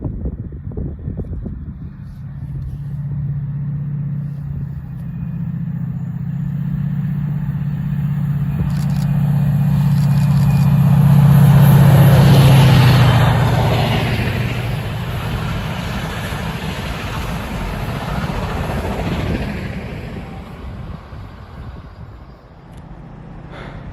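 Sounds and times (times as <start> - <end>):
diesel locomotive engine drone: 0.0 - 23.9.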